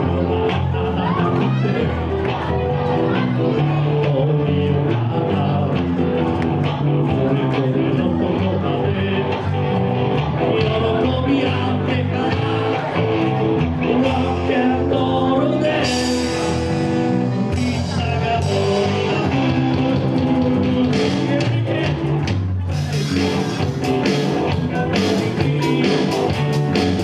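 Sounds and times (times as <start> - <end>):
live rock band playing: 0.0 - 27.0
person singing: 0.0 - 27.0.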